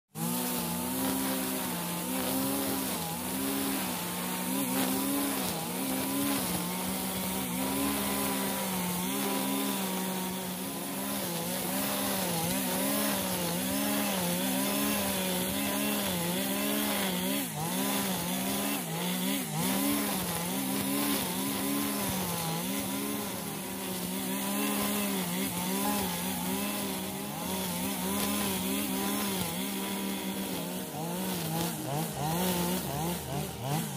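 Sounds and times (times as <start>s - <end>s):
brush cutter cutting grass: 0.1s - 33.9s.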